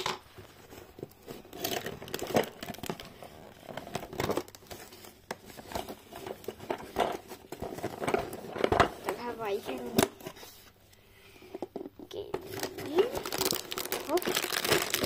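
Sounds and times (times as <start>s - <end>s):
cardboard crinkling and tearing: 0.4s - 10.6s, 12.4s - 15.0s.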